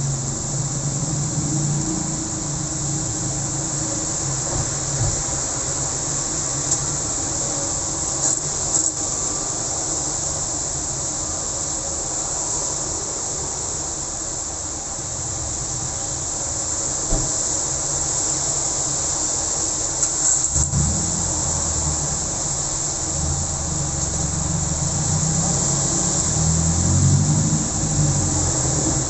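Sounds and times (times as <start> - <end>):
heavy rain falling: 0.0 - 29.0
road traffic rumble: 0.0 - 29.0.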